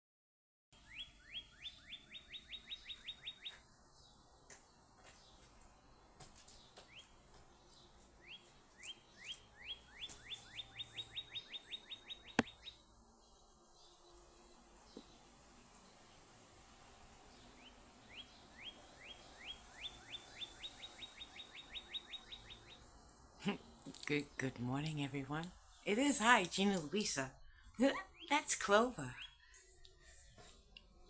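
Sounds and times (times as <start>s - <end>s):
songbird singing: 0.8s - 31.0s.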